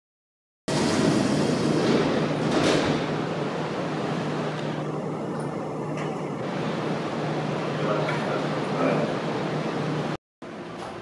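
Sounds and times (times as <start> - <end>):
electric train rumble: 0.7 - 11.0.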